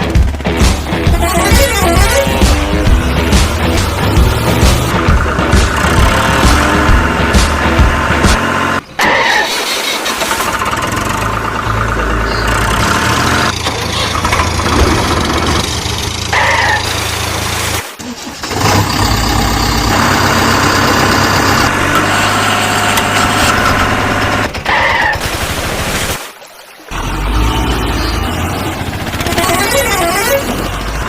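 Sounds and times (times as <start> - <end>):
diesel engines running: 0.0 - 25.9, 26.9 - 31.0.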